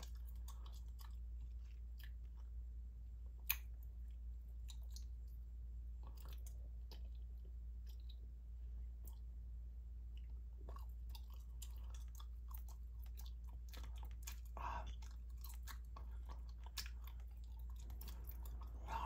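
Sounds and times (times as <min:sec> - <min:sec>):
gum chewing clicks and smacks: 0:00.0 - 0:09.5, 0:10.1 - 0:19.0
low steady hum: 0:00.0 - 0:19.0.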